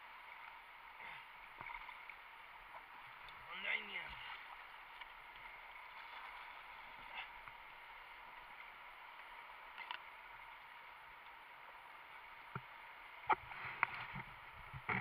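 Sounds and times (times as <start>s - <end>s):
muffled underwater river rush: 0.0s - 15.0s.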